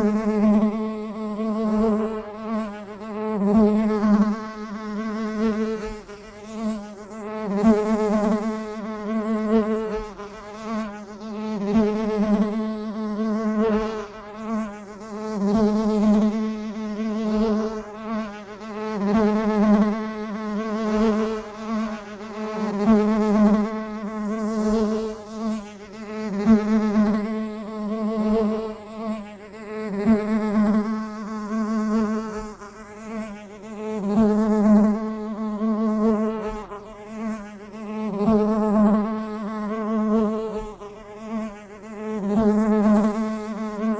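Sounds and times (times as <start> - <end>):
bee buzzing: 0.0 - 43.9.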